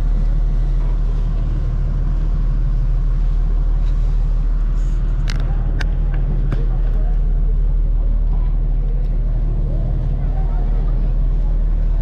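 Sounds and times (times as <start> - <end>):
ferry engine drone: 0.0 - 12.0.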